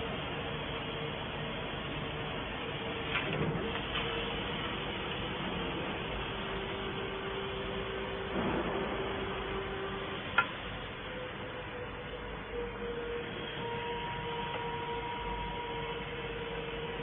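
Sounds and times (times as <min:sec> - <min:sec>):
laser cutter hiss and hum: 0:00.0 - 0:17.0.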